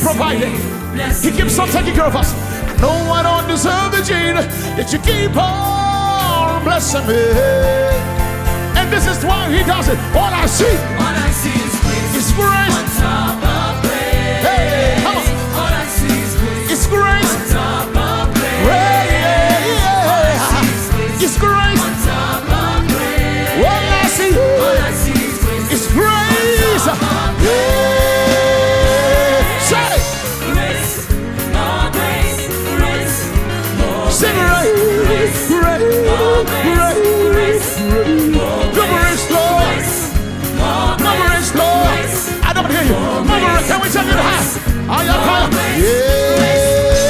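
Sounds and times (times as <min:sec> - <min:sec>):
gospel band playing: 0:00.0 - 0:47.0
people singing: 0:00.0 - 0:47.0.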